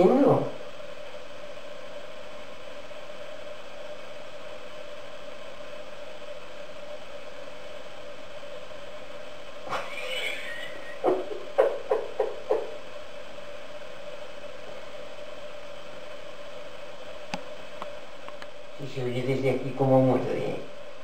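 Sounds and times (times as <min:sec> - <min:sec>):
steady mid-pitched hum: 0:00.0 - 0:21.0.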